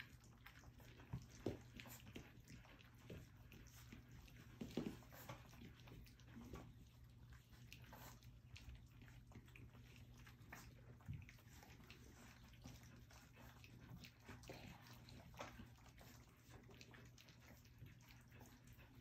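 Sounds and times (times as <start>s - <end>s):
puppies lapping and licking food: 0.0s - 19.0s.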